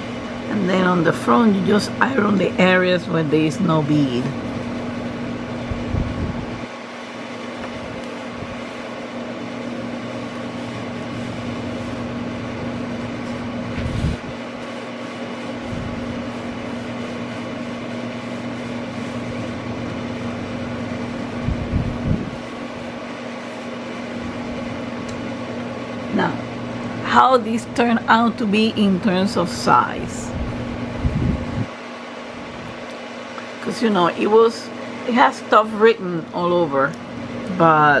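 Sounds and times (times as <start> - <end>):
mechanical hum: 0.0 - 38.0.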